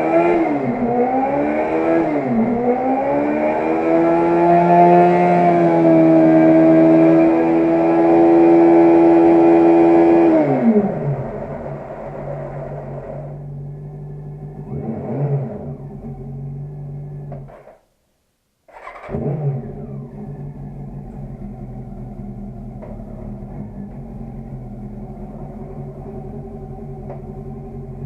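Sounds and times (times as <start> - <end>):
motorcycle engine idling and revving: 0.0 - 17.8, 18.7 - 28.0.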